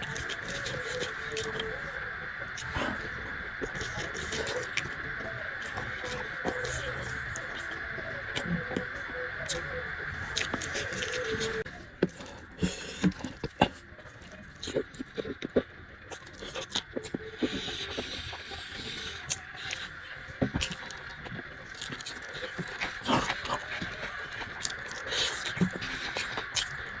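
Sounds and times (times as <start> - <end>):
chewing and mouth noises: 0.0 - 27.0.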